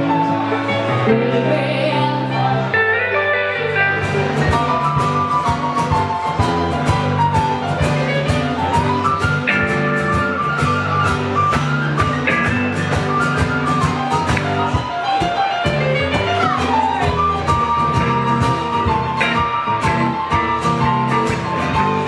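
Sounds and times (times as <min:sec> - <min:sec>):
electric guitar lead: 0:00.0 - 0:22.0
live blues band playing: 0:00.0 - 0:22.0.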